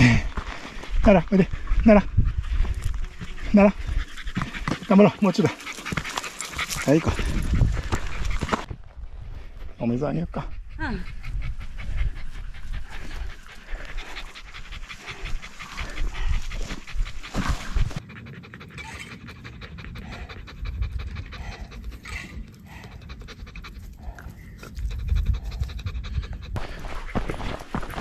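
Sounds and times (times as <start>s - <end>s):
dog panting hard: 1.4s - 8.7s, 10.1s - 28.0s.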